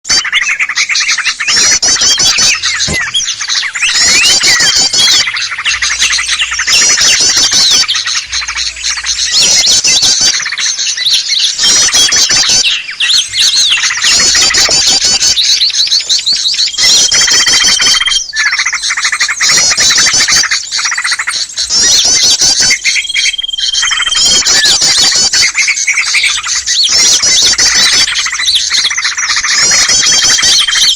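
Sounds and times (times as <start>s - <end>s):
songbirds chattering and chirping: 0.0s - 30.9s.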